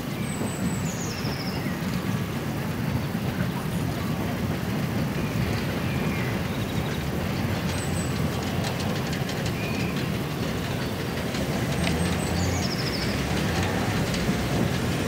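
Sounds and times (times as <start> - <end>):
steam train rumbling: 0.0 - 15.0.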